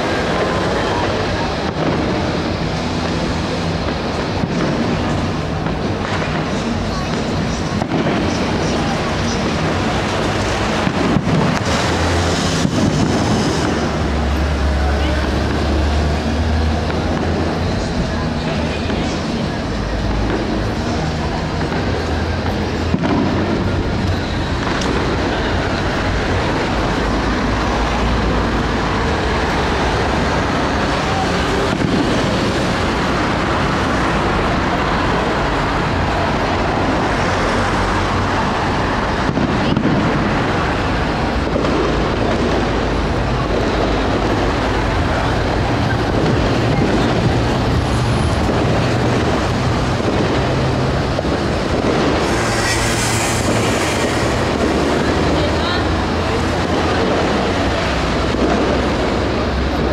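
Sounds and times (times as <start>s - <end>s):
outdoor street din: 0.0s - 59.9s.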